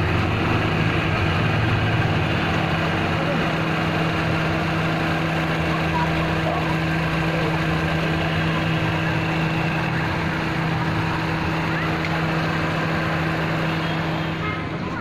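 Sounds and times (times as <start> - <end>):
car engine idling: 0.0 - 15.0
compressor hum: 0.0 - 15.0.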